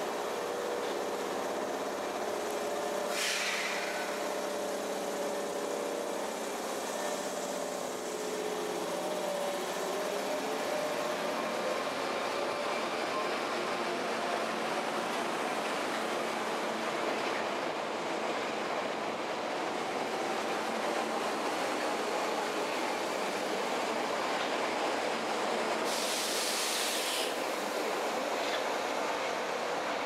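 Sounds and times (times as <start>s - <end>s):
electric train motors running: 0.0s - 30.0s.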